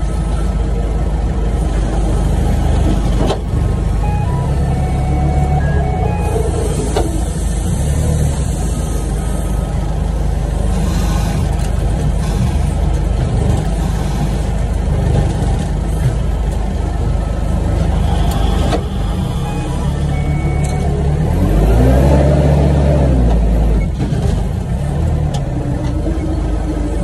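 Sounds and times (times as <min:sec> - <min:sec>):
forklift motor running: 0:00.0 - 0:27.0.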